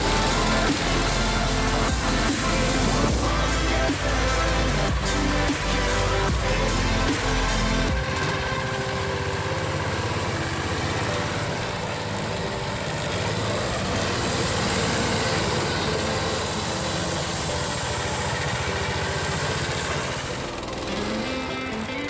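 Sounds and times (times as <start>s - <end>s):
small petrol engine running: 0.0s - 22.0s.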